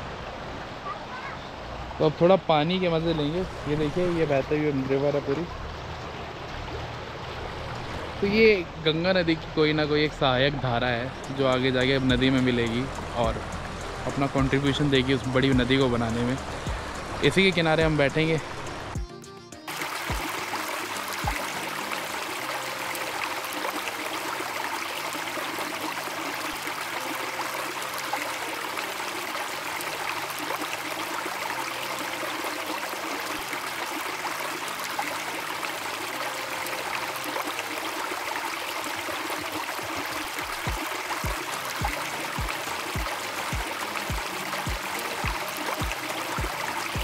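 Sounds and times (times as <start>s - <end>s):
river rushing over stones: 0.0s - 19.0s, 19.7s - 47.0s
faint background music: 1.6s - 47.0s.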